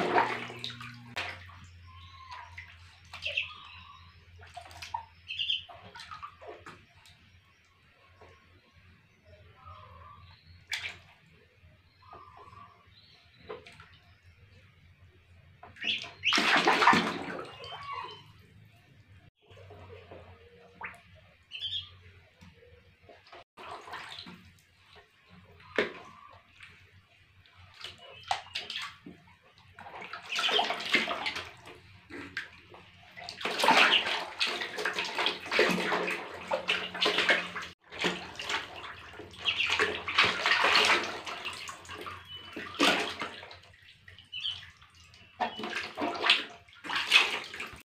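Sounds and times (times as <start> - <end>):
water splashing in a plastic tub: 0.0 - 47.8.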